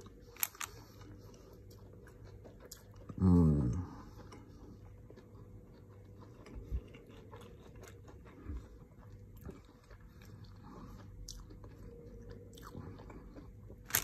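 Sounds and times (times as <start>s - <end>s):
person chewing crunchy food: 0.0s - 14.0s
steady low hum: 0.0s - 14.0s.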